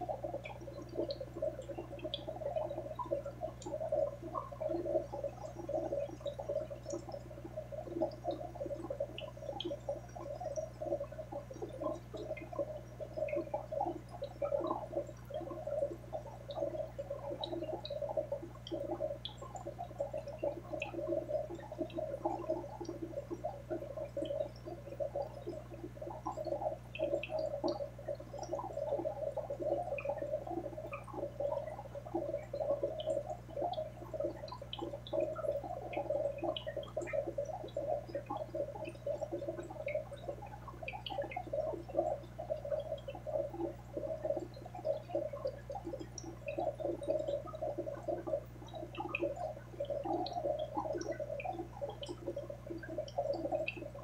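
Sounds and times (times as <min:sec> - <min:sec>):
aquarium water bubbling: 0:00.0 - 0:54.0
small ticks: 0:00.0 - 0:54.0.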